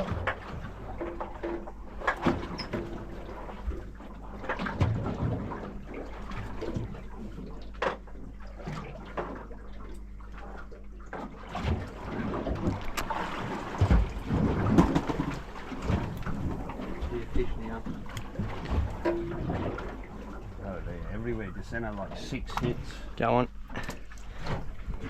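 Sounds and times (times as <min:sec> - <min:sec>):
steady low hum: 0:00.0 - 0:25.0
water moving around hull: 0:00.0 - 0:25.0.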